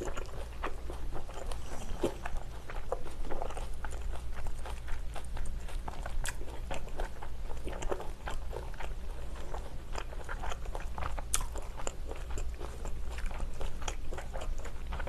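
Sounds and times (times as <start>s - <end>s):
wet chewing with mouth smacks: 0.0s - 15.0s.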